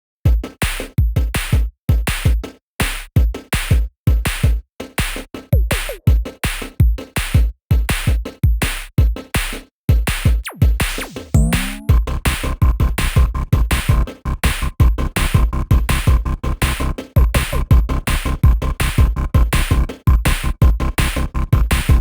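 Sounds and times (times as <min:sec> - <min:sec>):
electronic music with drum machine: 0:00.3 - 0:22.0.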